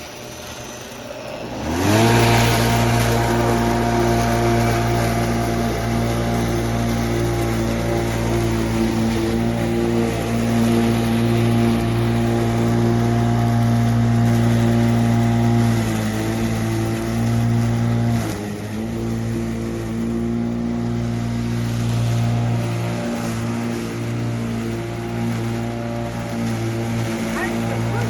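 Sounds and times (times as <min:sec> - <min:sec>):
electric lawn mower running: 0:00.0 - 0:28.0.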